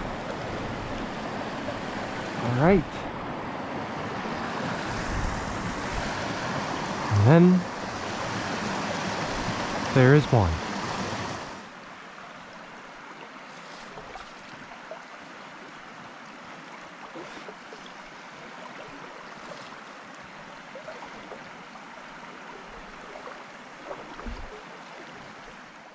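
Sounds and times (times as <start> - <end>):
creek water flowing: 0.0 - 25.9.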